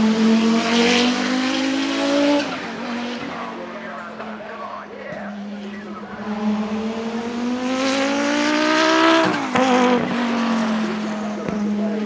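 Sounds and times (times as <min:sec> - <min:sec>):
car engine accelerating hard: 0:00.0 - 0:04.6, 0:05.3 - 0:12.0.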